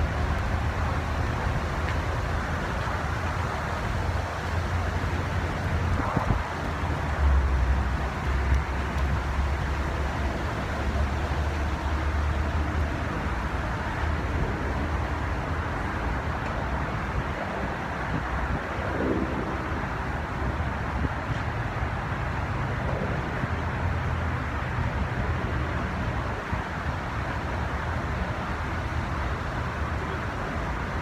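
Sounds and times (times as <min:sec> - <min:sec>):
low city rumble: 0:00.0 - 0:31.0.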